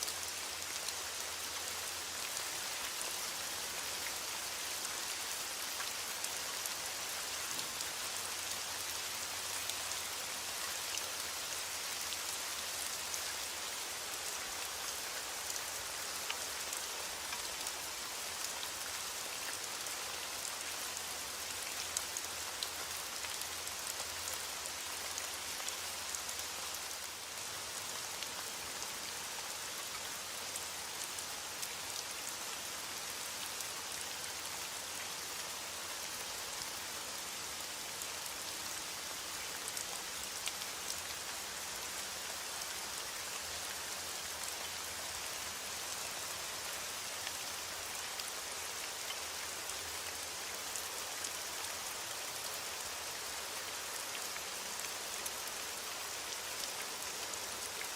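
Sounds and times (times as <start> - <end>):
rain falling on a surface: 0.0 - 57.9.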